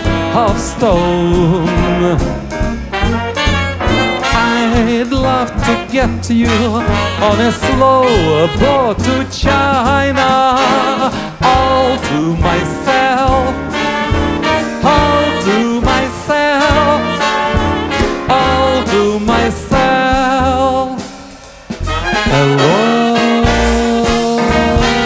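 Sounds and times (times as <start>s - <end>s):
man singing: 0.0s - 2.7s, 3.8s - 21.2s, 22.1s - 25.0s
swing jazz band playing: 0.0s - 25.0s.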